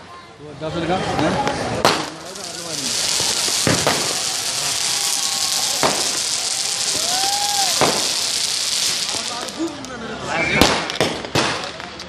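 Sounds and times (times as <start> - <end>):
firework fountain hissing: 1.0 - 12.0
firecracker cracks: 1.2 - 12.0.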